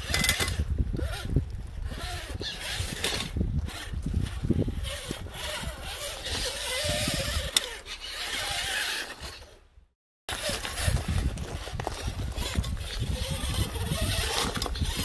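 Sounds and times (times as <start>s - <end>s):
rc car motor and gears whining: 0.0s - 9.6s, 10.3s - 15.0s
tyres scraping on stone: 0.0s - 9.7s, 10.3s - 15.0s.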